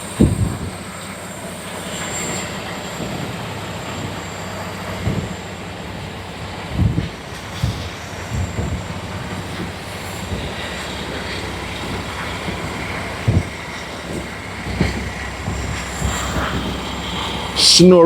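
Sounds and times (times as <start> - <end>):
truck engines rumbling: 0.0 - 18.0.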